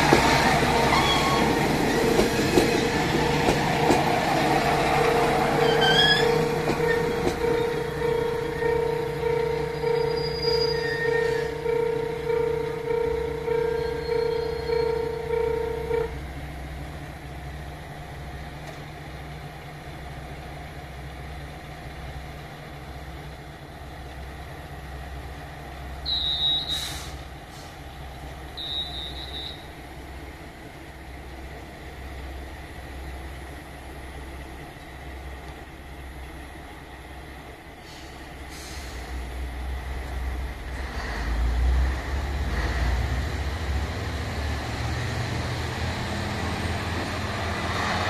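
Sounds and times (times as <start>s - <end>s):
diesel railcar idling: 0.0s - 48.0s.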